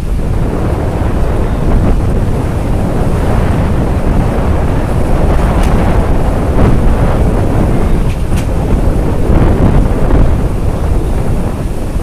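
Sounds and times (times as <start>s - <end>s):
train running rumble: 0.0s - 12.0s
wind buffeting microphone: 0.0s - 12.0s.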